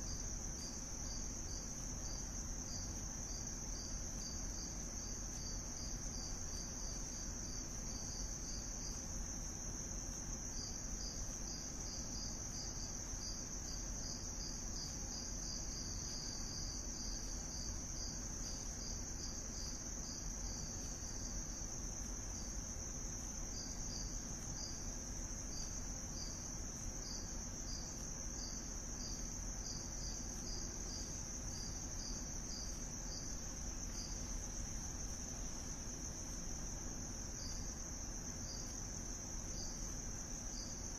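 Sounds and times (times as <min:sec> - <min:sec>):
crickets trilling: 0:00.0 - 0:40.9
pulsed cricket chirps: 0:00.0 - 0:40.9.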